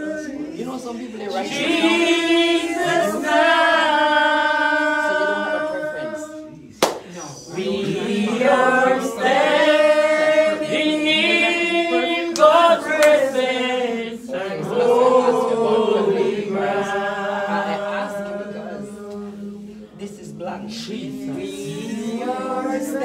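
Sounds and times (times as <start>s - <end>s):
voices singing worship song: 0.0s - 23.0s.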